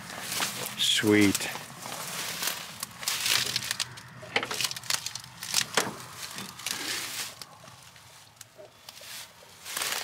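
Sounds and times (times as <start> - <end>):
footsteps crunching dry grass: 0.0 - 10.0.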